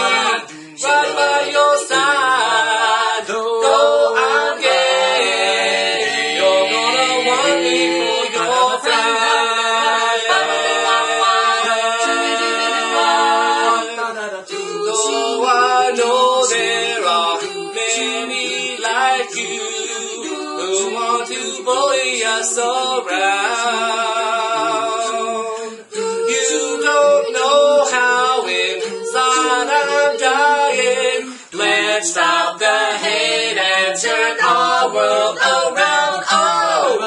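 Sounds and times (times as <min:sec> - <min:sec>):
a cappella quartet singing: 0:00.0 - 0:37.0.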